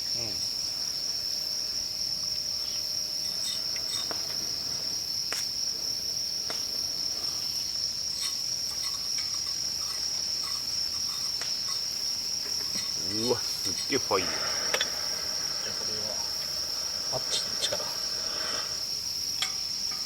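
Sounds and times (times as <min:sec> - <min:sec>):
crickets chirping: 0:00.0 - 0:20.0
wood fire crackling: 0:01.9 - 0:20.0.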